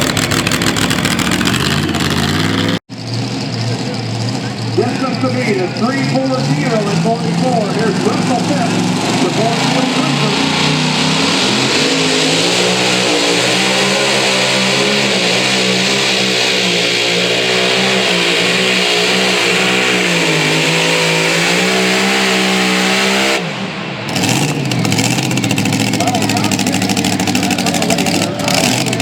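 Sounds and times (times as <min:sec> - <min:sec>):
engine running at high revs: 0:00.0 - 0:29.0.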